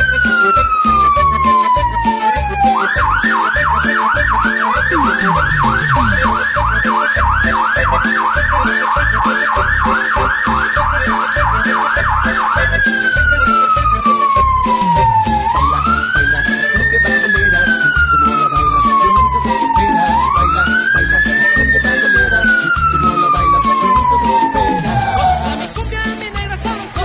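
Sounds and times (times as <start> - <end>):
siren wailing and yelping: 0.0 - 25.8
music with pounding beat: 0.0 - 27.0.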